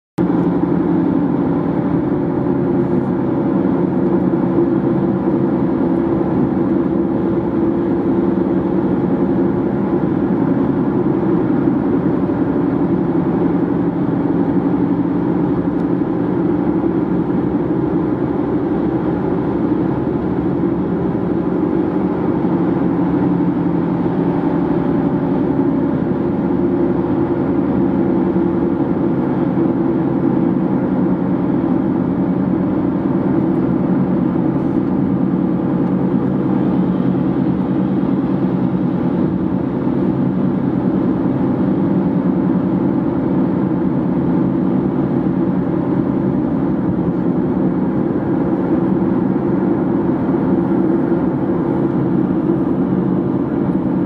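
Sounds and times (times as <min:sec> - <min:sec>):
car engine running: 0:00.2 - 0:54.0.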